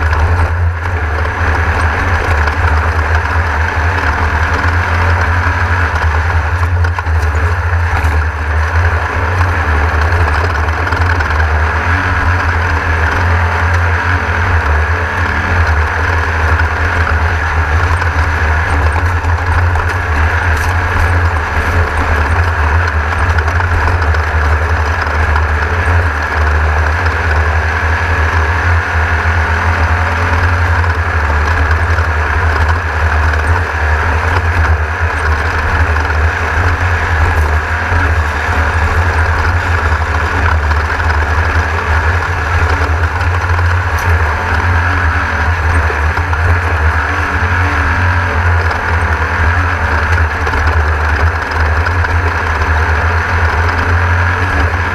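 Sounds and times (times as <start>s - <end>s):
race car engine droning: 0.0s - 54.9s.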